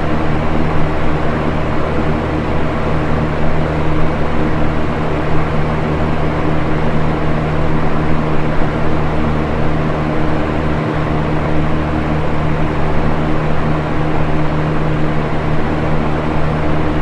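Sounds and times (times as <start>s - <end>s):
box fan air whoosh: 0.0s - 17.0s
low motor hum: 0.0s - 17.0s.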